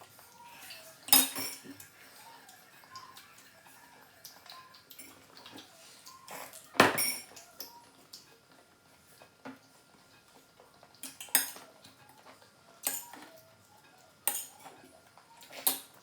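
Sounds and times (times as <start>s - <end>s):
cutlery clinking against dishes: 0.2s - 8.4s, 10.9s - 16.0s.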